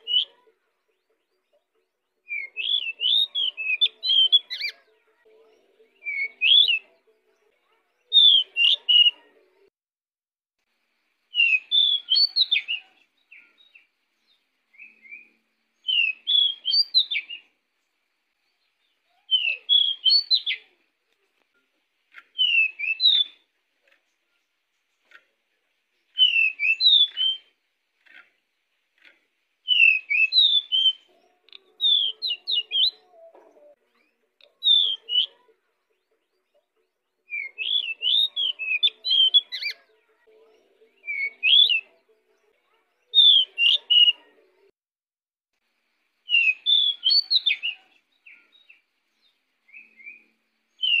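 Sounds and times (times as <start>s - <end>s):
bird chirping and warbling: 0.0s - 0.4s, 2.3s - 7.0s, 7.6s - 9.3s, 11.3s - 17.9s, 18.5s - 20.8s, 22.1s - 36.6s, 37.3s - 44.4s, 46.3s - 51.0s.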